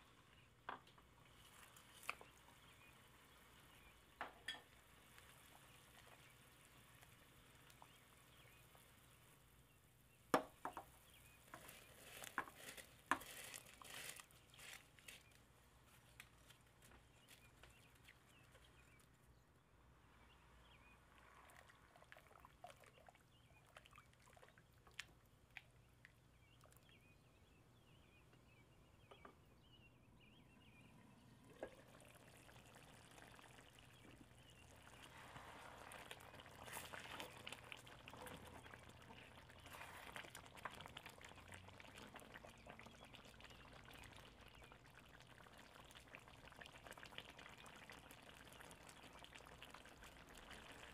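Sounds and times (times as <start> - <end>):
curry crackling and bubbling: 0.0 - 19.4, 20.0 - 29.3, 30.6 - 50.9
faint bubbling pot: 0.0 - 19.4, 20.0 - 50.9.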